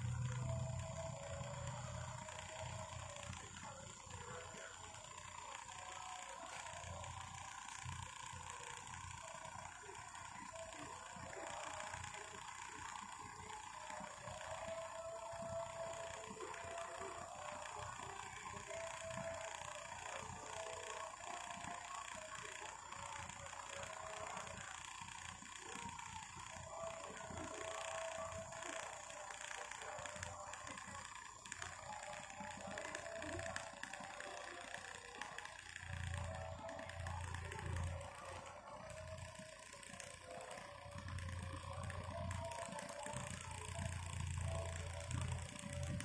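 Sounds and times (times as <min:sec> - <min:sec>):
thin whine: 0:00.0 - 0:46.0
toy fans whirring: 0:00.0 - 0:46.0.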